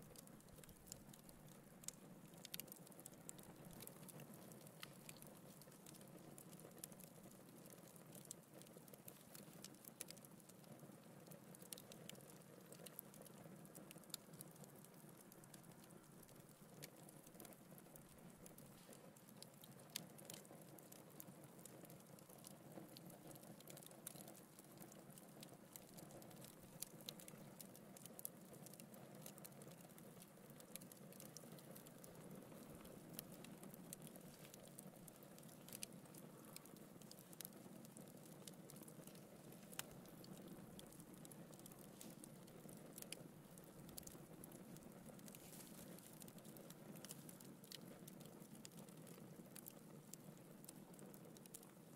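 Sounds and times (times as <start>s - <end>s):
fire crackling and popping: 0.0s - 51.9s.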